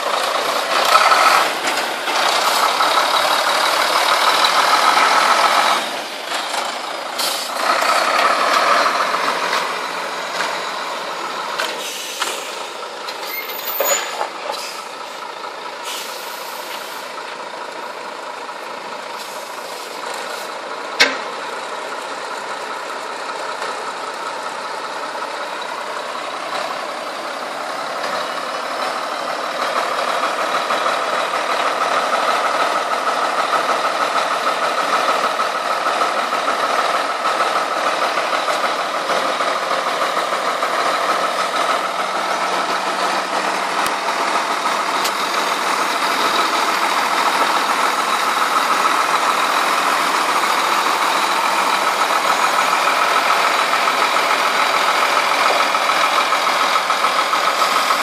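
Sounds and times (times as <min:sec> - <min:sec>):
truck diesel engine running: 0:00.0 - 0:58.0.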